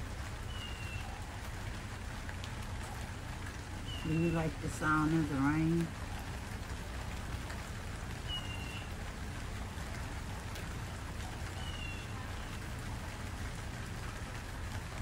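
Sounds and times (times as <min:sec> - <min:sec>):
rain falling on leaves: 0:00.0 - 0:15.0.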